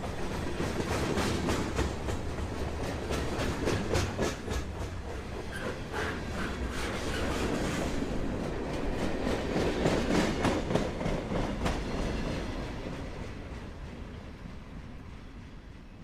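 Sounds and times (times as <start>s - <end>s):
train wheels clicking: 0.0s - 14.4s
freight train rumble: 0.0s - 16.0s.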